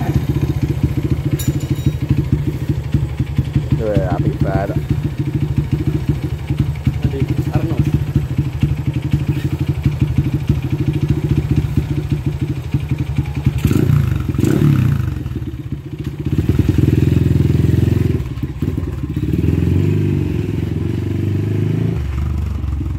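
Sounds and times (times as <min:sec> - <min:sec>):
motorcycle revving and riding off: 0:00.0 - 0:12.8, 0:13.4 - 0:22.9
motorcycle engine idling: 0:00.0 - 0:21.2, 0:22.0 - 0:22.9.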